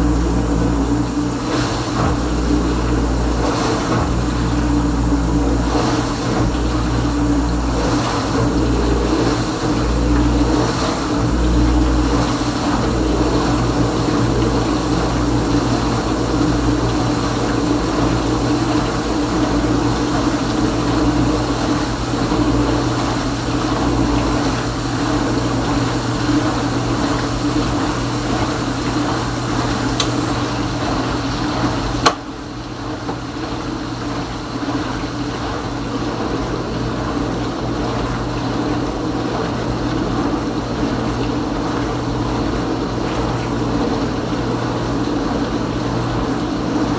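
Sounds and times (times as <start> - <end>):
dishwasher pump humming: 0.0 - 46.9
water spraying inside dishwasher: 0.0 - 46.9.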